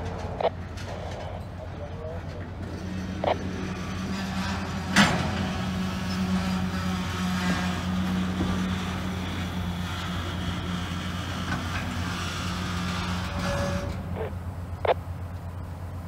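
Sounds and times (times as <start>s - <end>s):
freight train wheels on rails: 0.0s - 16.0s
low drone: 0.0s - 16.0s.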